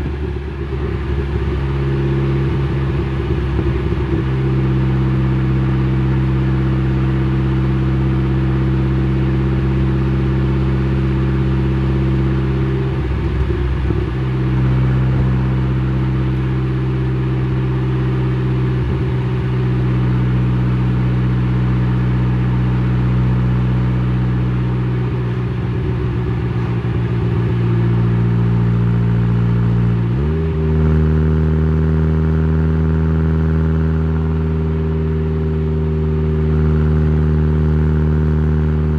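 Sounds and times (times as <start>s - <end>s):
car exhaust at steady revs: 0.0s - 38.9s.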